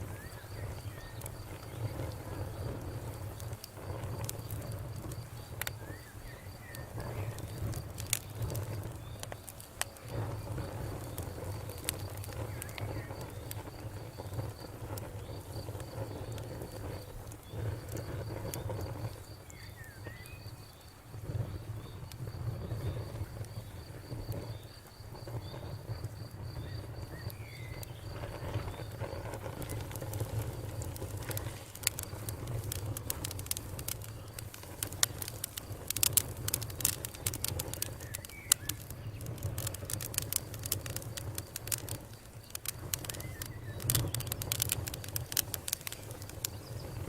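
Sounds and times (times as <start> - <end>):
campfire crackling: 0.0 - 47.0
cricket chirping: 0.0 - 47.0.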